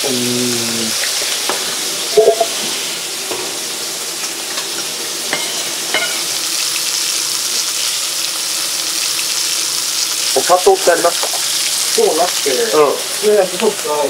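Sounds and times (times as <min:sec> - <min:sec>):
food sizzling on stove: 0:00.0 - 0:14.0.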